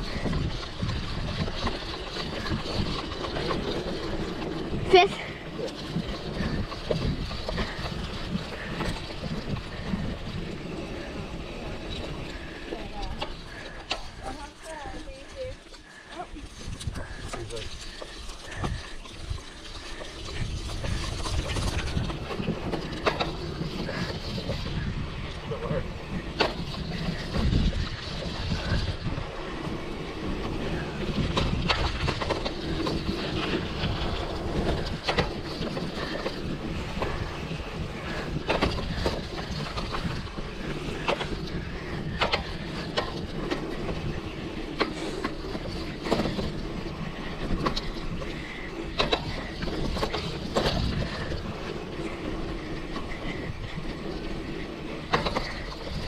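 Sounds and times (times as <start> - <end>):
mountain bike tyre rumble: 0.0 - 56.0.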